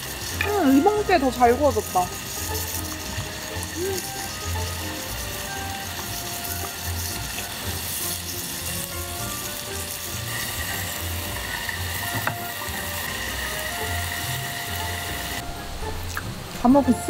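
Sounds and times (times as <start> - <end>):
background music: 0.0 - 17.0
meat sizzling on a grill: 0.0 - 17.0.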